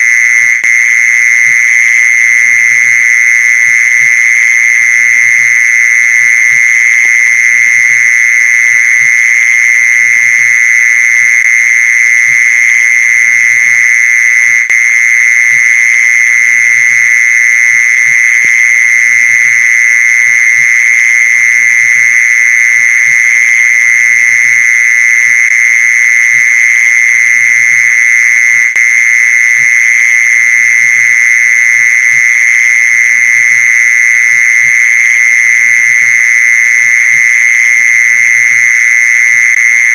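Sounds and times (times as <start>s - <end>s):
mole cricket trilling: 0.0s - 39.9s.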